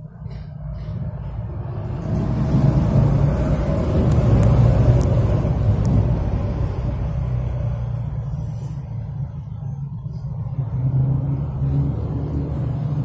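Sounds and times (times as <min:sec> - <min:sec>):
low rumbling: 0:00.0 - 0:13.0.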